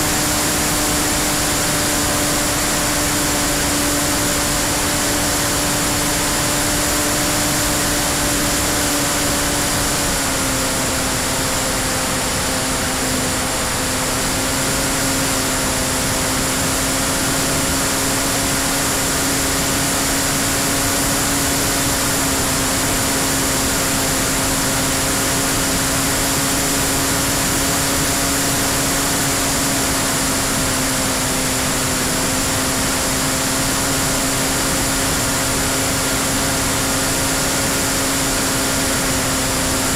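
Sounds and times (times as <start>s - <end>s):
electric motor and propeller humming: 0.0s - 39.9s.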